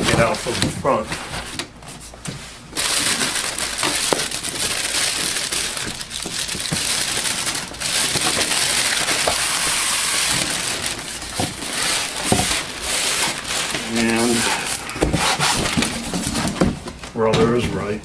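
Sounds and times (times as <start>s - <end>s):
plastic bag and paper crinkling: 0.0s - 18.0s.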